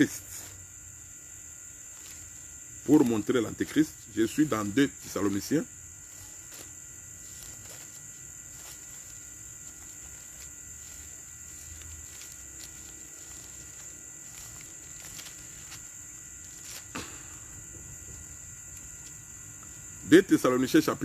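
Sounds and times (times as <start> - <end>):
crickets droning: 0.0 - 21.0.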